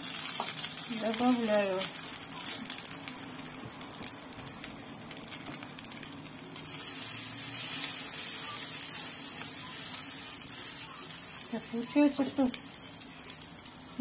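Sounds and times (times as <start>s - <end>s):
potato pancakes sizzling in oil: 0.0s - 14.0s.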